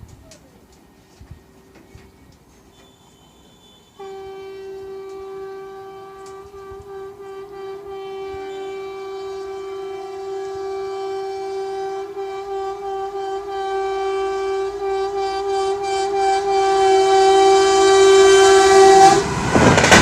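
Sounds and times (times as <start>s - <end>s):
train rumbling: 0.0s - 20.0s
train horn long note: 2.7s - 20.0s.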